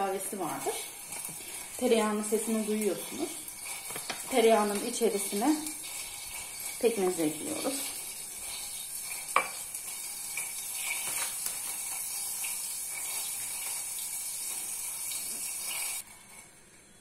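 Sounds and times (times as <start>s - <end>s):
butter sizzling in a pan: 0.0s - 16.9s.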